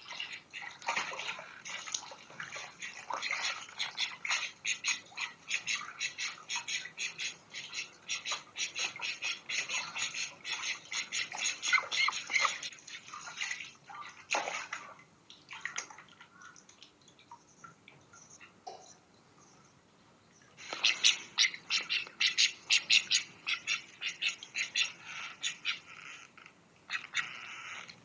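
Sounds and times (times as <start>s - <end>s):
ducks splashing in water: 0.0s - 17.2s, 20.6s - 25.9s.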